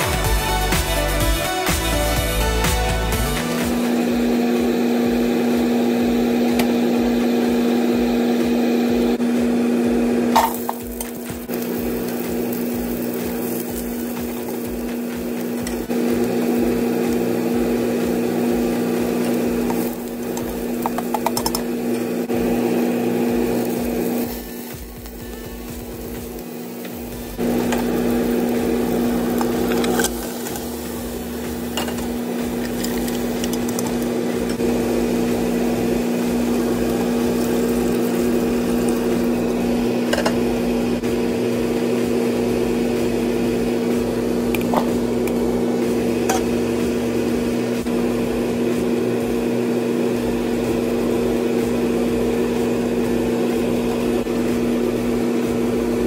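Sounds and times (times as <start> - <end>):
electric motor hum: 2.0 - 56.0.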